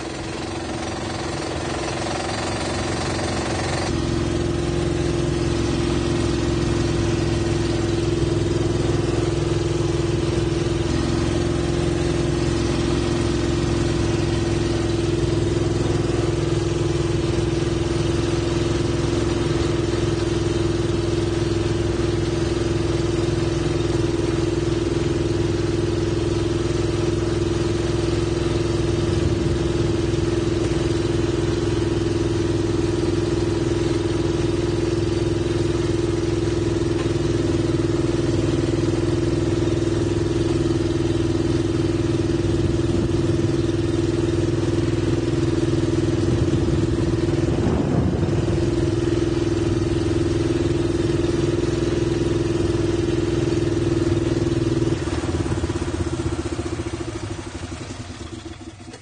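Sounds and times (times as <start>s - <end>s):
engine hum: 0.0s - 59.0s.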